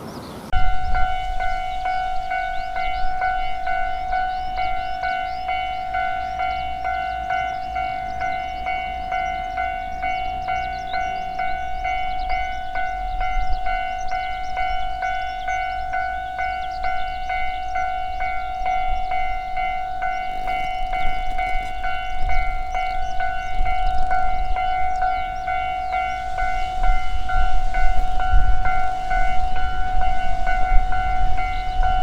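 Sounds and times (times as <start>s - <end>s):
railroad crossing bell ringing: 0.5s - 32.0s.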